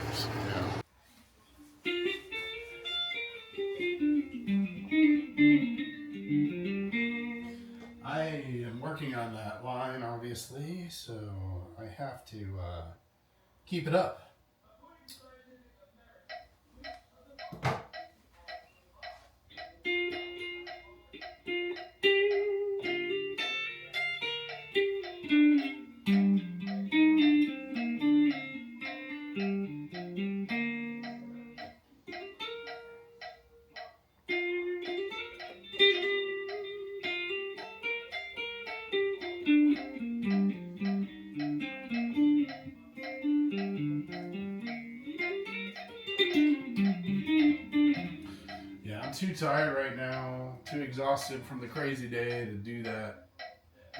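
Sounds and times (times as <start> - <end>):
guitar plucking single notes: 1.9 - 10.4, 16.3 - 53.6.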